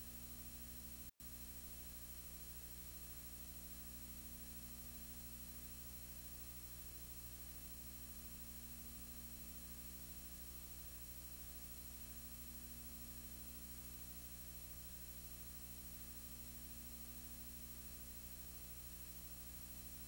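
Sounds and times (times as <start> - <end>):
low hum with hiss: 0.0 - 20.0.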